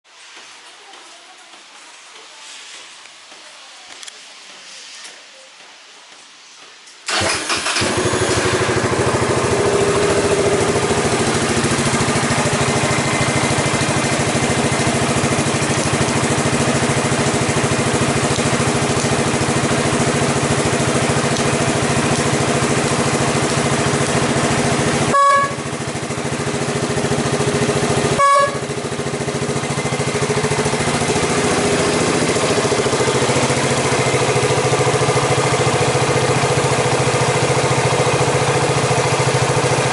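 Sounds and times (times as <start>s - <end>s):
motorcycle engine running: 7.1s - 39.9s.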